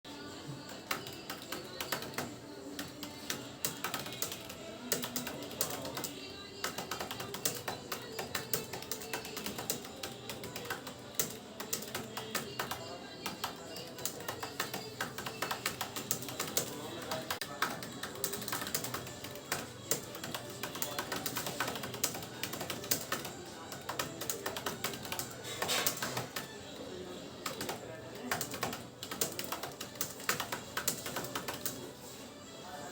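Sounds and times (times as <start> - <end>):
background music: 0.1 - 32.9
fast typing on computer keyboard: 0.7 - 26.6, 27.4 - 31.9.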